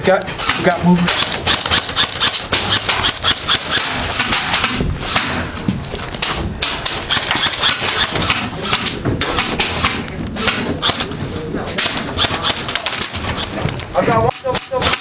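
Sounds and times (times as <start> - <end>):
airsoft guns firing: 0.4 - 5.6, 6.2 - 11.2, 11.8 - 13.8, 14.4 - 15.0.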